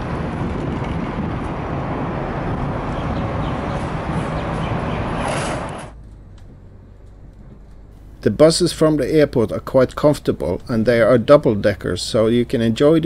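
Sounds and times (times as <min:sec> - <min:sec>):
bus engine rumble: 0:00.0 - 0:13.0
traffic noise: 0:00.0 - 0:13.0.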